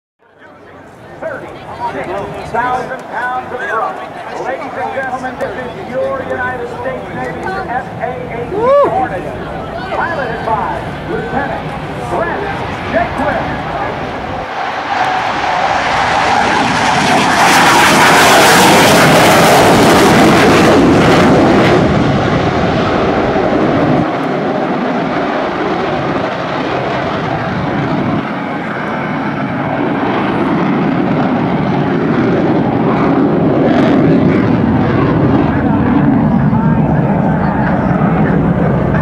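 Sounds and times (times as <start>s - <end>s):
jet roar with crackle: 1.3s - 7.9s, 10.0s - 39.0s.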